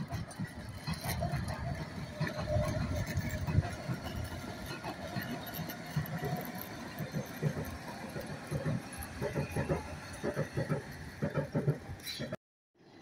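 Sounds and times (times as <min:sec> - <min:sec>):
train running past: 0:00.0 - 0:13.0.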